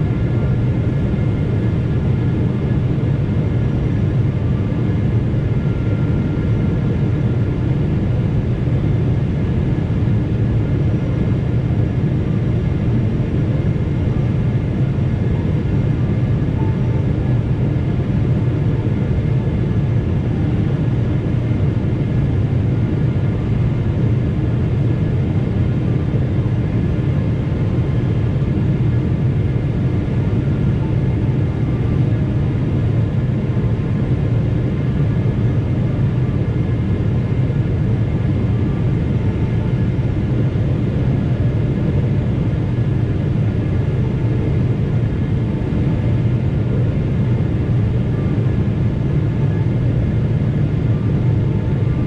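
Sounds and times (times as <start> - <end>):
aircraft cabin engine rumble: 0.0 - 52.0
faint steady whine: 0.0 - 52.0.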